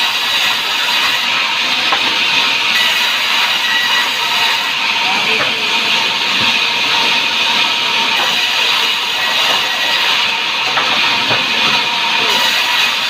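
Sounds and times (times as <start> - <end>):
sawmill saw cutting timber: 0.0 - 13.0.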